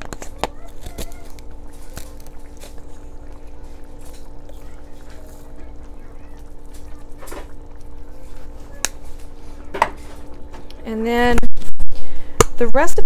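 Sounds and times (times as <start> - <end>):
utensils stirring thick sauce: 0.0 - 10.8
steady background hum: 0.0 - 13.0.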